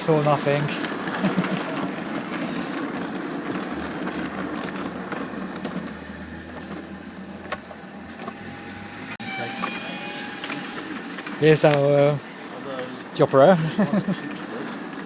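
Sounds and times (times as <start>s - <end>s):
model train motor humming: 0.0s - 15.0s
wheels clicking on rails: 0.0s - 15.0s.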